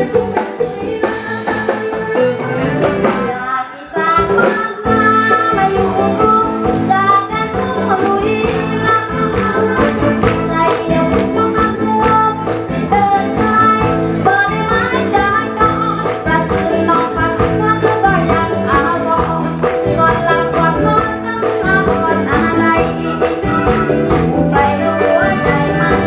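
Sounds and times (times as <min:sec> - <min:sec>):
woman singing into a microphone: 0:00.0 - 0:02.3, 0:03.1 - 0:26.0
backing band with steady beat: 0:00.0 - 0:26.0.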